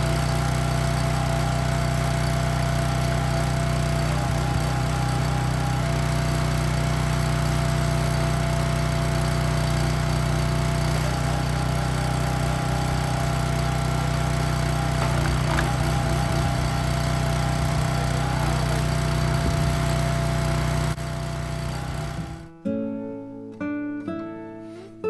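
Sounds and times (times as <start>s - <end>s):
log splitter engine running: 0.0s - 22.5s.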